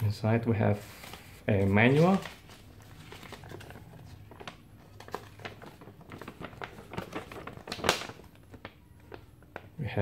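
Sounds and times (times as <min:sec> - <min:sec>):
paper crinkling and rustling: 0:00.6 - 0:10.0.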